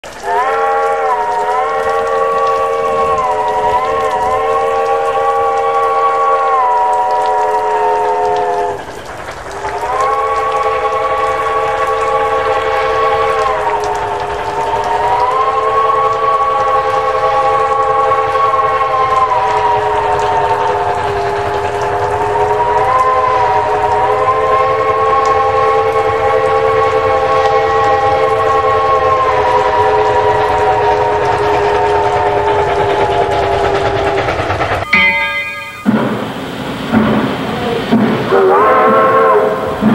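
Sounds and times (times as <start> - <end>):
steam whistle blowing: 0.2 - 9.0, 9.6 - 39.9.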